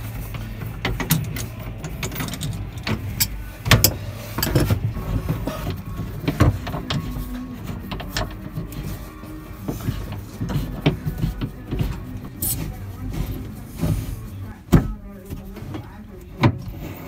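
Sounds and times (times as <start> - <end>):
low steady hum: 0.0 - 17.0
metallic clicks knocks and scrapes: 0.3 - 14.1.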